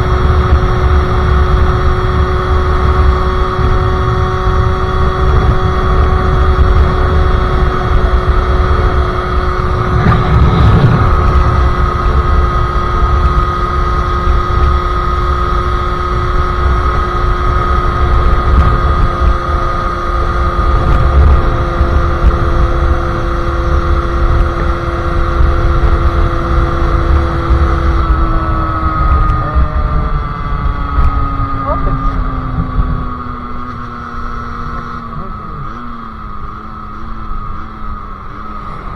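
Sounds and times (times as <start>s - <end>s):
two-stroke engine at high revs: 0.0s - 38.9s.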